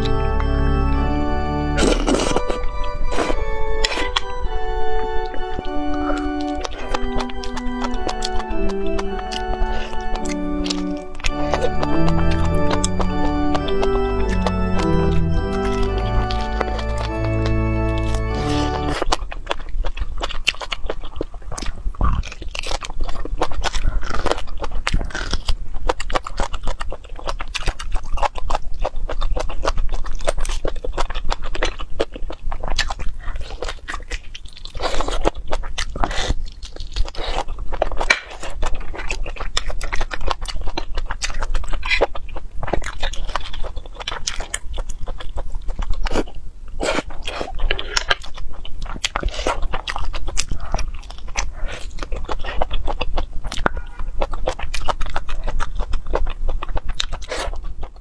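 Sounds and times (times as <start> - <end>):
wet chewing and mouth sounds: 1.7 - 58.0.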